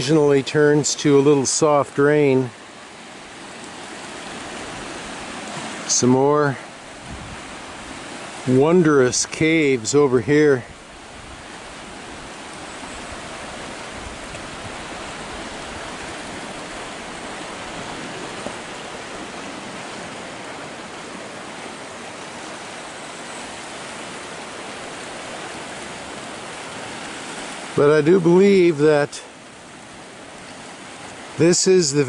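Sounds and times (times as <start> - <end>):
sea water surging among rocks: 0.0 - 32.0.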